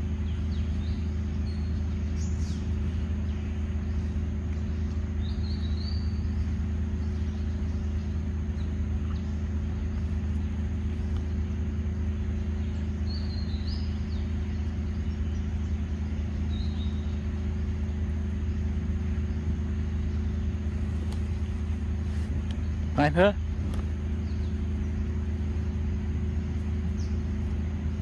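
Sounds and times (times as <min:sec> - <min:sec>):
bird chirps: 0:00.0 - 0:28.0
low motor hum: 0:00.0 - 0:28.0.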